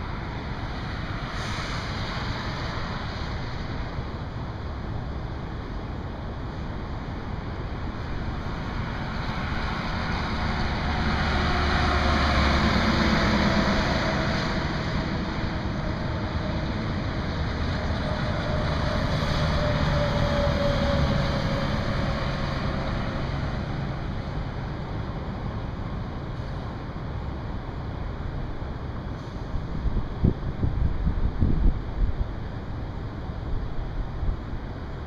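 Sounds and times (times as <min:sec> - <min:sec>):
highway traffic passing: 0:00.0 - 0:35.0.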